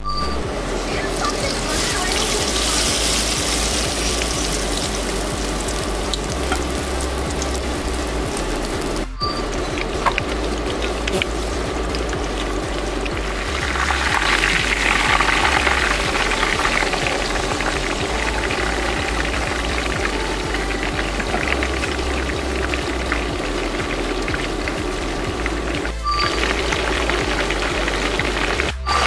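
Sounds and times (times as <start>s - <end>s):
fish frying in hot oil: 0.6s - 29.0s.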